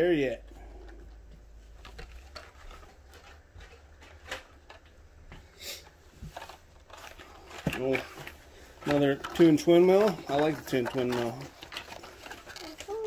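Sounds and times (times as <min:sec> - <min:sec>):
plastic and card rustling: 0:00.3 - 0:13.0.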